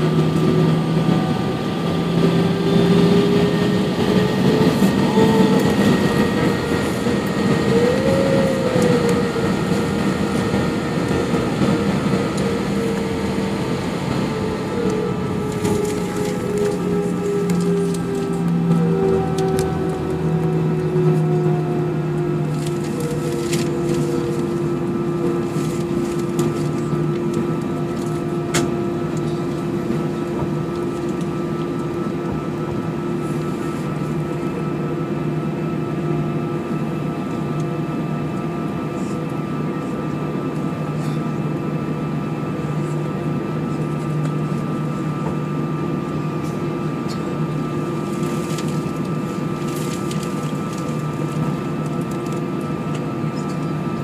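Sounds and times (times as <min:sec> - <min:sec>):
jet engines idling hum: 0:00.0 - 0:54.0.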